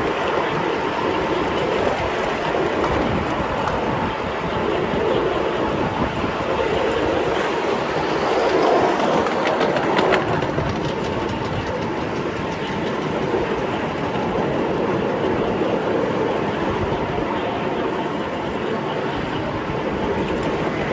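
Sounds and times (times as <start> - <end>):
miniature train wheels on rail: 0.0 - 20.9
train clatter: 0.0 - 20.9.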